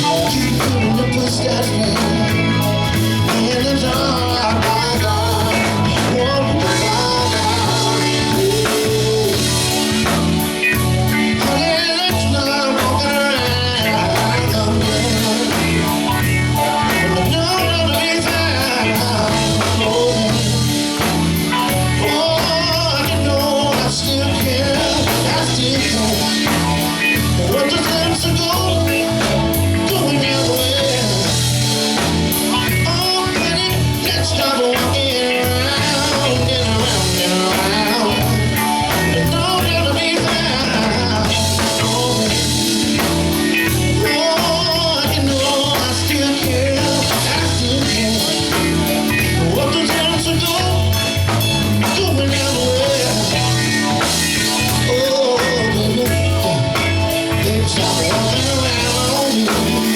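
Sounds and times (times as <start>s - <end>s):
live soul band playing: 0.0s - 59.9s.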